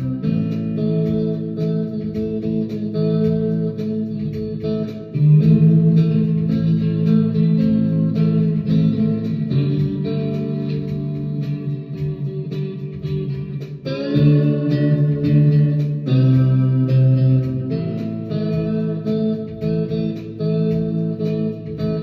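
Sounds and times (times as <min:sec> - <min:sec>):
slide electric guitar: 0:00.0 - 0:22.0.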